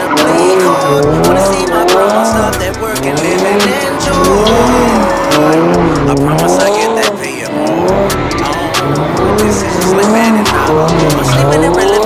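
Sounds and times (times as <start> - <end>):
car tires squealing: 0.0 - 12.0
music: 0.0 - 12.0.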